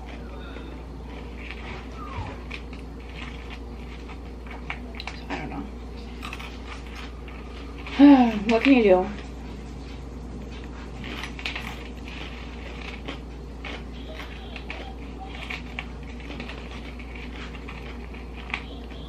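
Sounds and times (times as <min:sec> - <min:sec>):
chewing and crunching corn chips: 0:00.0 - 0:05.3, 0:06.0 - 0:09.3, 0:10.4 - 0:19.0
steady low hum: 0:00.0 - 0:19.0.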